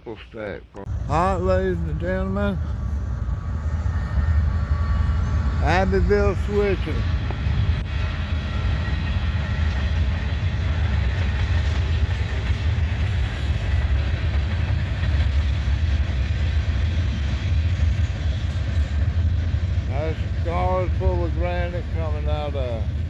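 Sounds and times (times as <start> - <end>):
train cars rumbling on rails: 0.8 - 23.0.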